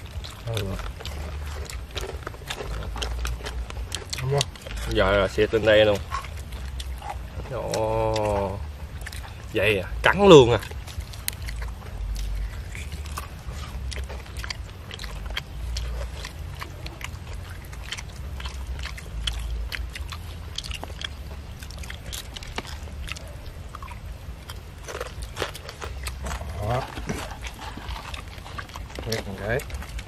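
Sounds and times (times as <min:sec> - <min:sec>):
chewing crispy food: 0:00.0 - 0:30.0
steady low rumble: 0:00.0 - 0:30.0.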